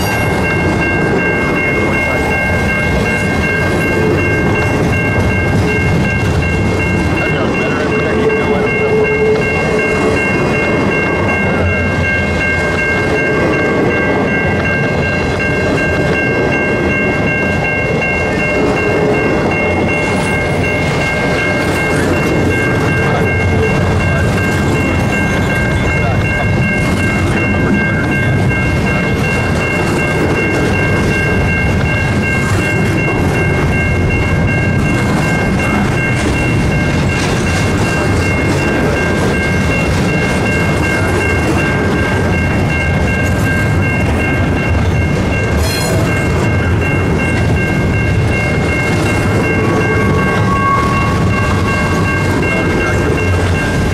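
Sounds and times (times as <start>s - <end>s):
freight train rumbling past: 0.0s - 53.9s
level-crossing bell ringing: 0.0s - 53.9s.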